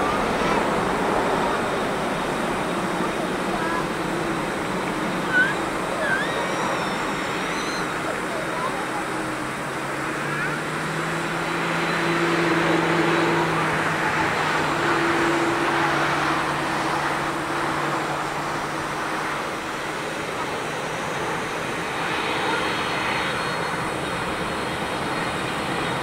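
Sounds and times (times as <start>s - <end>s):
distant jet engines roaring: 0.0s - 26.0s.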